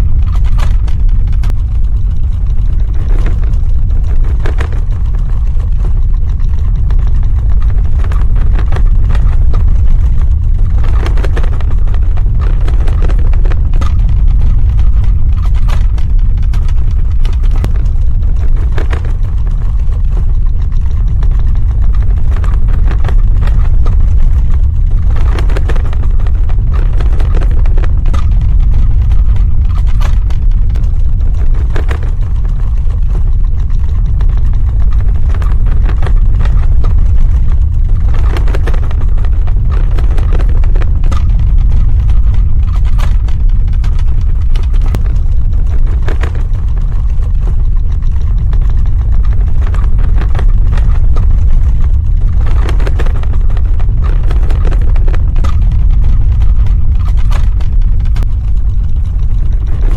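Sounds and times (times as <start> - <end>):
deep rumble: 0.0 - 59.9
sharp crackles: 0.0 - 59.9.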